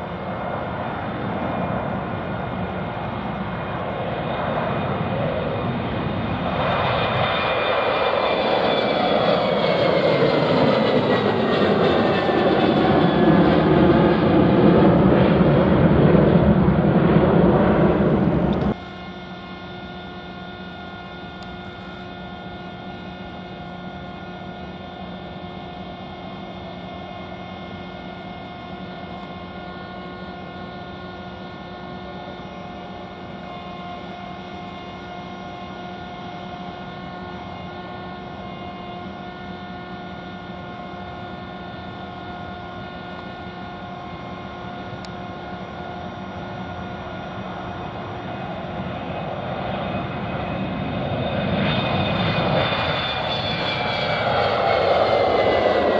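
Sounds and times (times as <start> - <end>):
jet engines idling with whine: 0.0 - 55.9
loud aircraft engine noise: 0.0 - 55.9.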